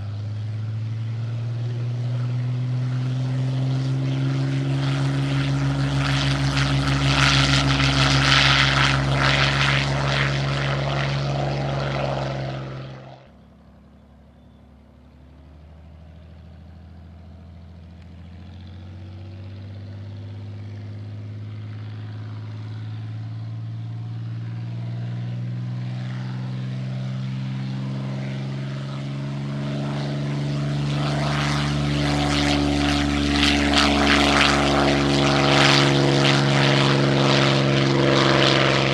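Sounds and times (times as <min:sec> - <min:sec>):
approaching propeller plane engine: 0:00.0 - 0:38.9
propeller plane engine roaring: 0:00.0 - 0:38.9.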